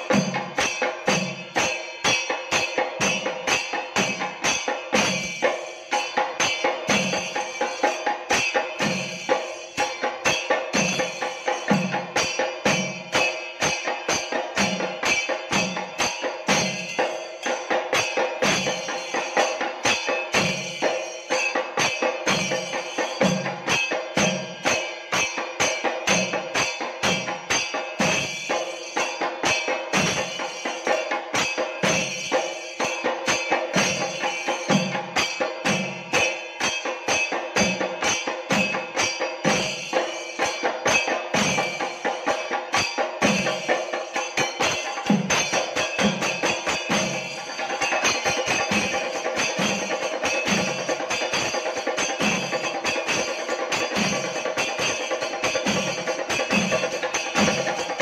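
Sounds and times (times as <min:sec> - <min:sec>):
rapid drum strokes: 0:00.0 - 0:58.0.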